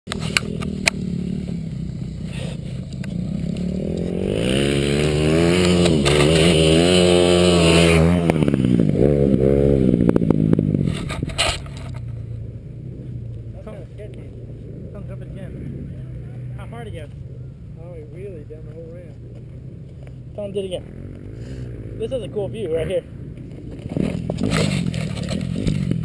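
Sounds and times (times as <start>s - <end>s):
dirt bike engine revving: 0.1s - 26.0s.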